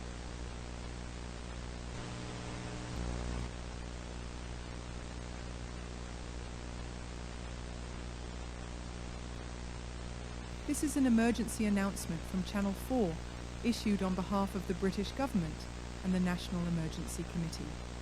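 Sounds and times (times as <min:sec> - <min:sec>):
low mains hum: 0:00.0 - 0:18.0
steady hiss: 0:00.0 - 0:18.0.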